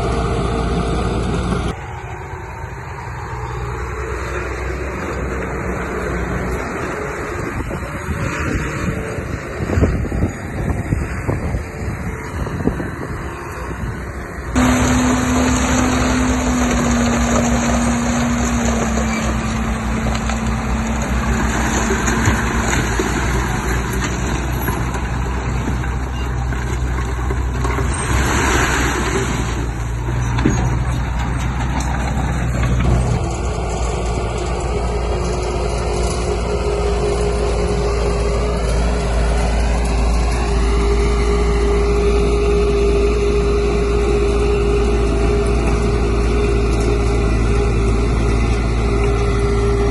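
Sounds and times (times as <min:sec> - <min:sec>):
diesel machinery engine drone: 0:00.0 - 0:49.9.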